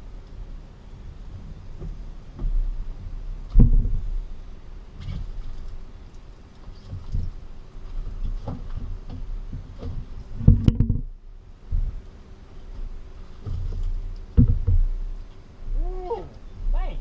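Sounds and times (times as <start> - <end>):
faint steady hum: 0.0 - 17.0
gear knocking and thumping on boat: 1.1 - 15.4.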